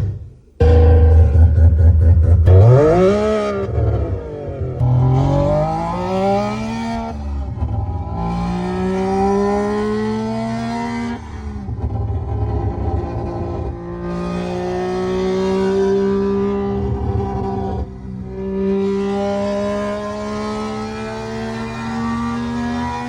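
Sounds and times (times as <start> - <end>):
rotary engine revving: 0.6 - 23.0.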